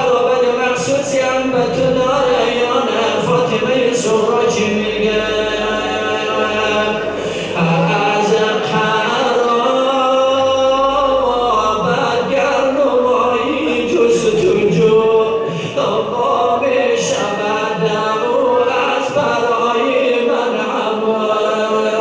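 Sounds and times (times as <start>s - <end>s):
man chanting into a microphone: 0.0s - 22.0s.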